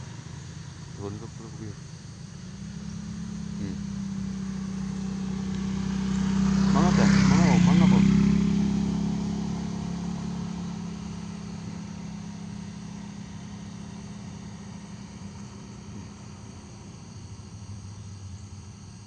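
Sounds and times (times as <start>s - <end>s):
motor engine humming: 0.0s - 19.0s.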